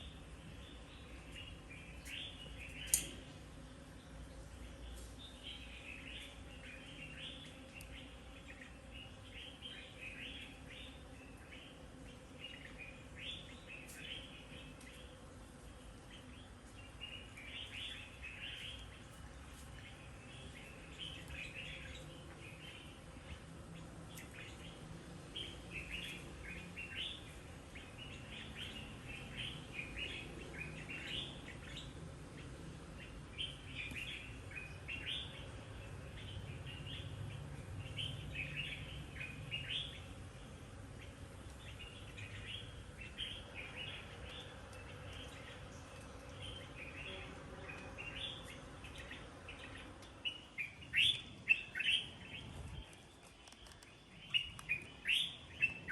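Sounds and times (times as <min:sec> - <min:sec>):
birds chirping and singing: 0:00.0 - 0:55.9
low background hum: 0:00.0 - 0:55.9.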